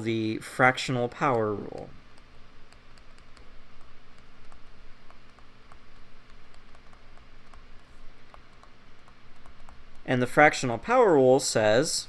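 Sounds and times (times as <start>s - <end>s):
faint steady hum: 0.0s - 12.0s
stylus tapping on screen: 0.7s - 11.2s.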